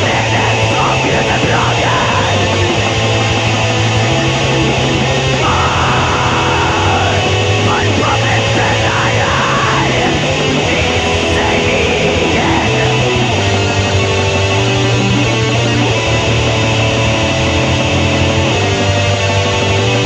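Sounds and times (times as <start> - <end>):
distorted electric guitars: 0.0 - 20.0.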